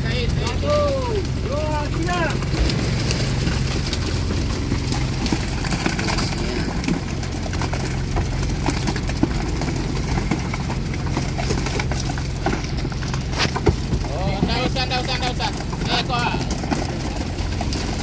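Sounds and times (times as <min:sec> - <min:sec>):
boat engine idling: 0:00.0 - 0:18.0
knocks and clatter: 0:00.0 - 0:18.0.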